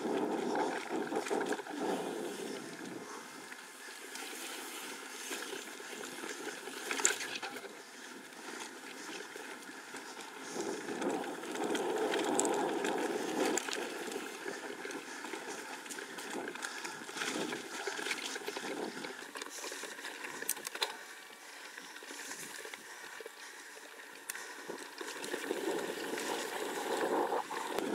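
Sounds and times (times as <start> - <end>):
bike tyres on dirt: 0.0 - 27.9.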